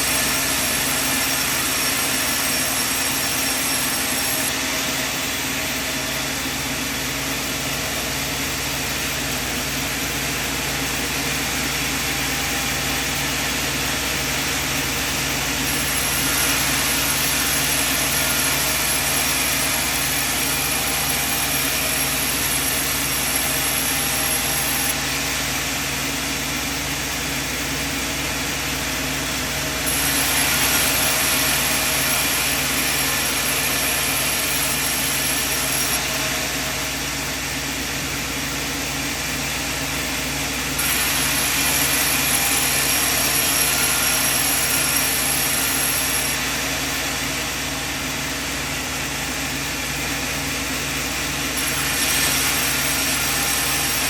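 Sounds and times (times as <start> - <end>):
sawmill machine running: 0.0 - 54.0.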